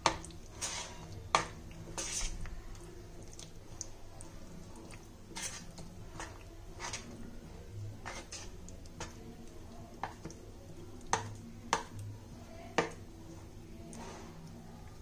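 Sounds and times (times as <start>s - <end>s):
potatoes mixed in batter: 0.0s - 15.0s.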